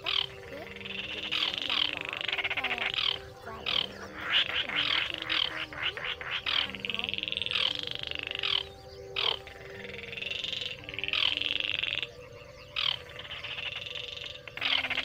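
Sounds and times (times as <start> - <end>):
bird rattling trills: 0.0 - 15.0.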